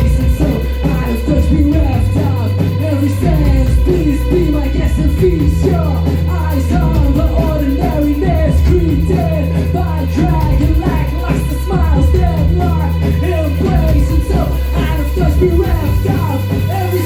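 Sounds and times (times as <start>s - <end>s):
post-punk band playing live: 0.0s - 17.0s
repeating melodic riff: 0.0s - 17.0s
sustained bass notes: 0.0s - 17.0s.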